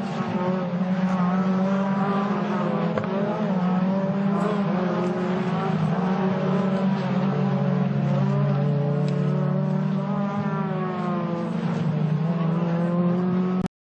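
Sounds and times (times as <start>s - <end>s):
race car engines running: 0.0s - 13.7s.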